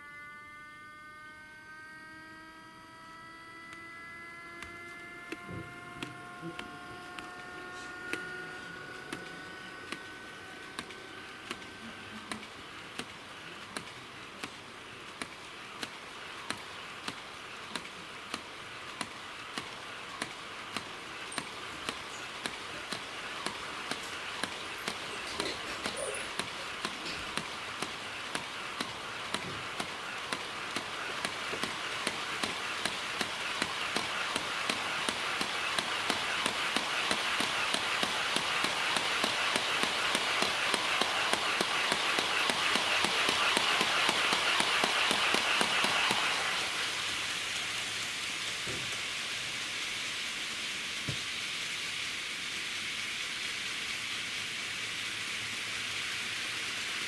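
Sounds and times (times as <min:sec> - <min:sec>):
model train wheels clicking: 0:03.4 - 0:57.0
model train rolling rumble: 0:03.9 - 0:57.0.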